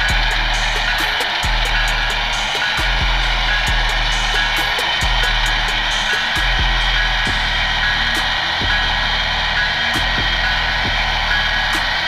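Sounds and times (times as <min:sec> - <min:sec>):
model locomotive electric whir: 0:00.0 - 0:12.0.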